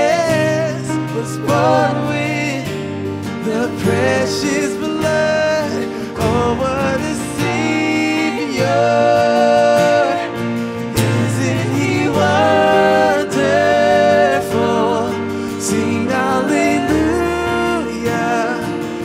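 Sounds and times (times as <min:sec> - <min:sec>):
instrumental accompaniment: 0:00.0 - 0:19.0
worship song singing: 0:00.0 - 0:19.0.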